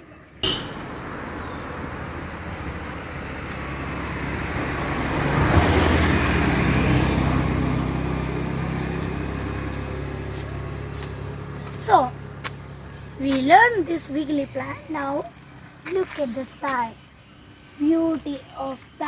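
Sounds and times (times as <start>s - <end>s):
vehicle passing on road: 0.3s - 19.0s.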